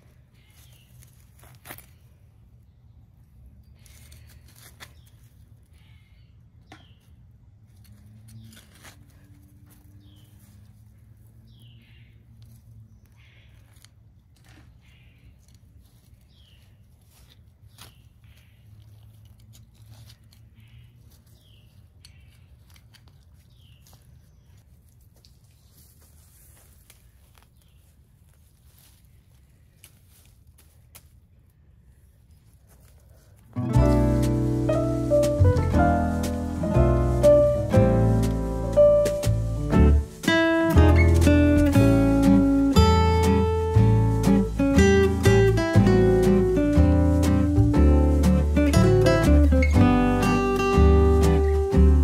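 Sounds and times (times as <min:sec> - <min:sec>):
weeds ripping from soil: 0:00.1 - 0:02.3, 0:03.7 - 0:06.0, 0:07.6 - 0:31.3, 0:31.9 - 0:52.0.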